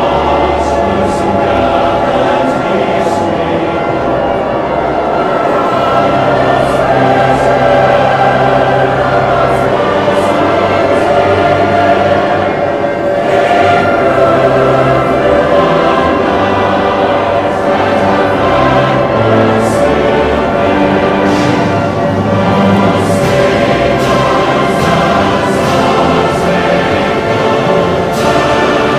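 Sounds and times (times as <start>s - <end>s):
choir singing held chords: 0.0s - 28.9s.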